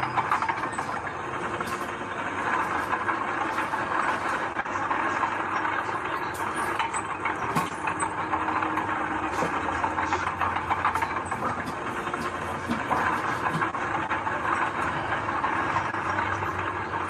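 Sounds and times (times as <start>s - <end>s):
diesel machinery engine running: 0.0s - 17.0s.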